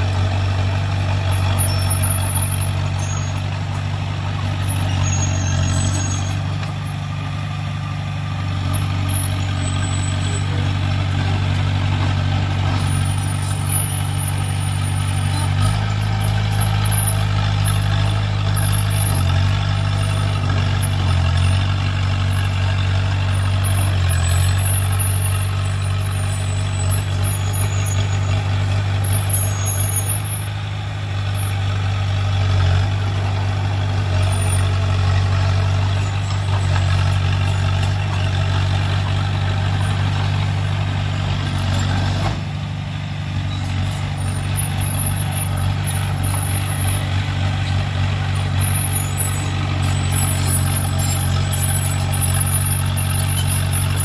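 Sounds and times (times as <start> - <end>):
bulldozer blade pushing soil and rocks: 0.0 - 54.0
bulldozer diesel engine running: 0.0 - 54.0.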